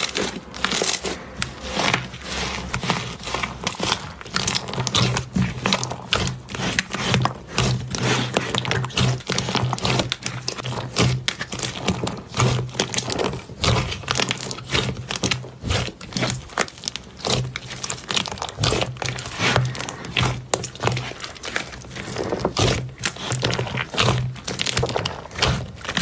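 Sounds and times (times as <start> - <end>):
slime crackling and popping: 0.0 - 26.0.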